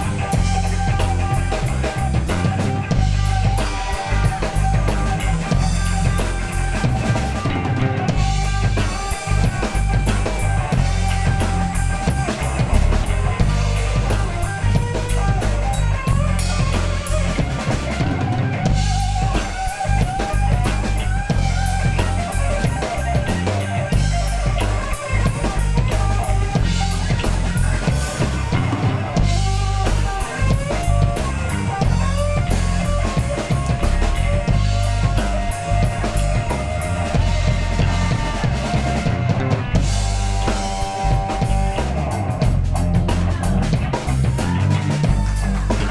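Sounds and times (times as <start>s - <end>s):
bass guitar: 0.0s - 45.9s
drum kit: 0.0s - 45.9s
held guitar notes: 0.0s - 45.9s.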